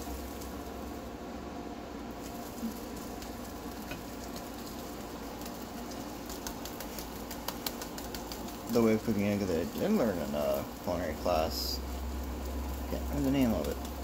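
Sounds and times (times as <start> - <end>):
spatula crackles and taps: 0.0 - 1.1, 2.1 - 14.0
eggs sizzling in a skillet: 0.0 - 14.0.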